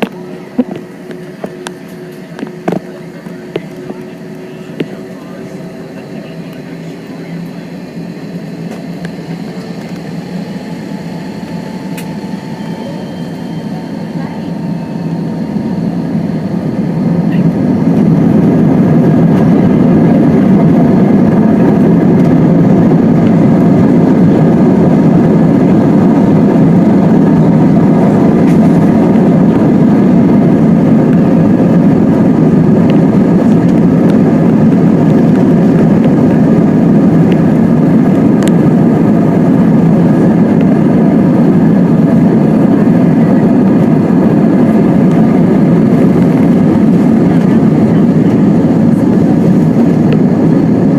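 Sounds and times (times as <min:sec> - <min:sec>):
jet engines rumbling: 0:00.0 - 0:50.9.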